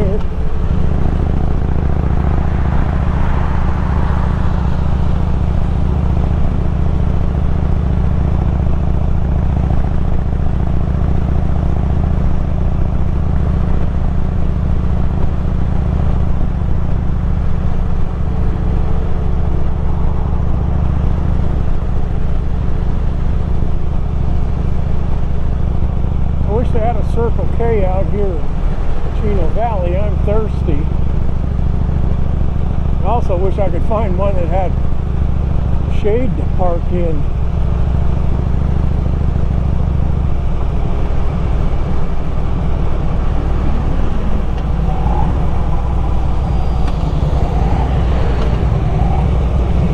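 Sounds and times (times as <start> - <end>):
motorcycle engine cruising: 0.0 - 49.9
wind and road rush: 0.0 - 49.9.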